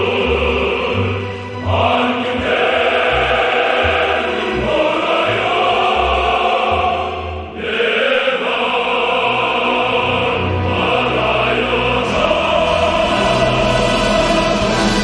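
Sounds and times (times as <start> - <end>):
operatic choral singing: 0.0 - 15.0
orchestral accompaniment: 0.0 - 15.0.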